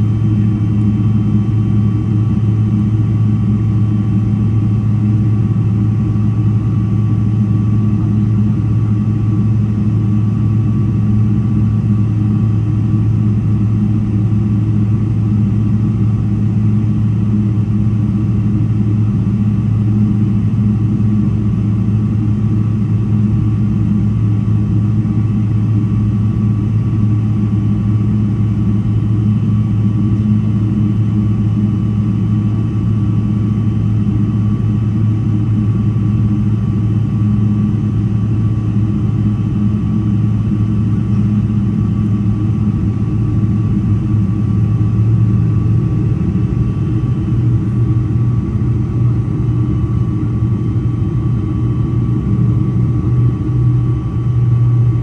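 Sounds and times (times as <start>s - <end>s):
aircraft cabin engine drone: 0.0s - 55.0s
faint steady whines: 0.0s - 55.0s.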